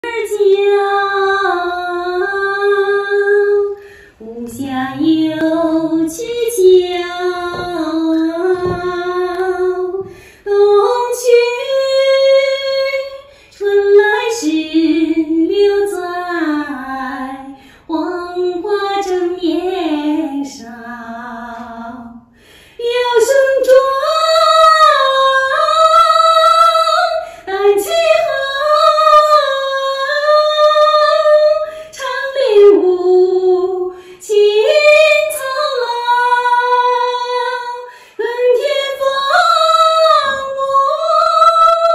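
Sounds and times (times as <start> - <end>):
woman singing a cappella: 0.0 - 41.9.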